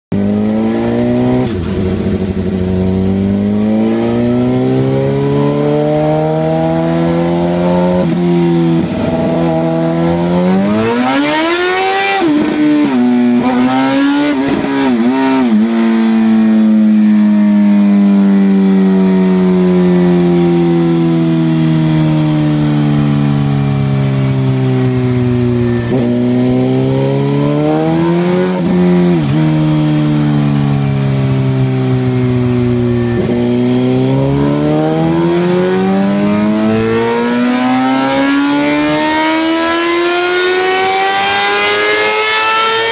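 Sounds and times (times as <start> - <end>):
motorcycle engine revving: 0.1 - 42.9.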